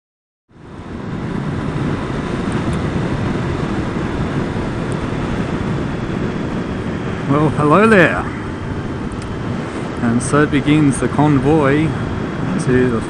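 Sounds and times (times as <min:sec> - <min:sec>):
motorcycle engine rumbling: 0:00.5 - 0:13.0.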